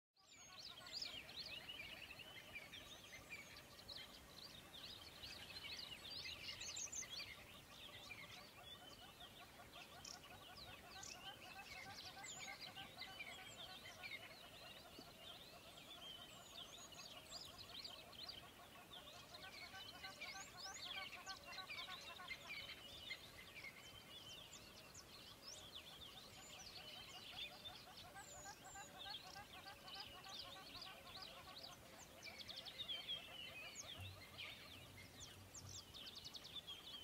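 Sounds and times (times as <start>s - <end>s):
faint chorus of birds chirping: 0.2s - 37.0s.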